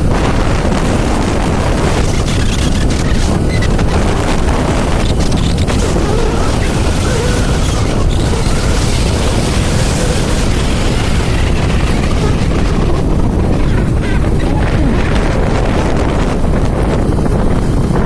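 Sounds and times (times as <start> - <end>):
road and vehicle noise: 0.0 - 18.0
wind buffeting microphone: 0.0 - 18.0.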